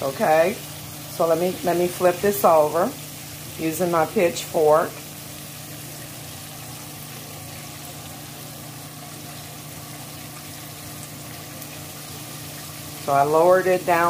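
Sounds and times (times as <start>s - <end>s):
chicken deep-frying in oil: 0.0s - 14.0s
low steady hum: 0.0s - 14.0s.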